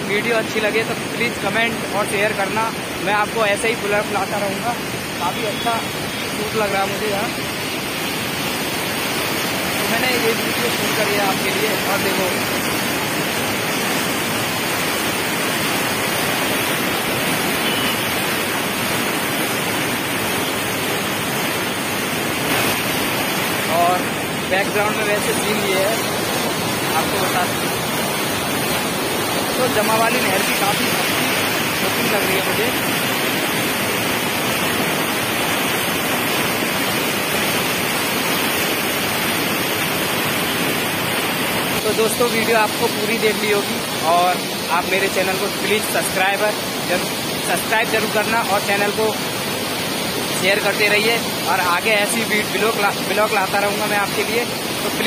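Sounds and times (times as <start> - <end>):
water rushing through sluice: 0.0 - 55.0.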